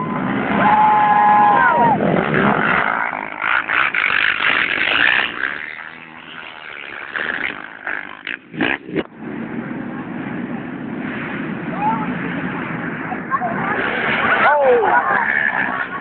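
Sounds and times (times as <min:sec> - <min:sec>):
atv engines racing: 0:00.0 - 0:16.0.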